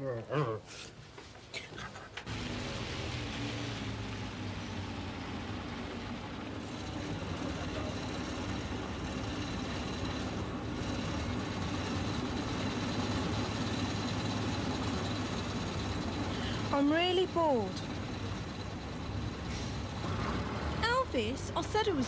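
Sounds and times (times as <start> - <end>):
bus diesel engine hum: 0.7 - 22.0.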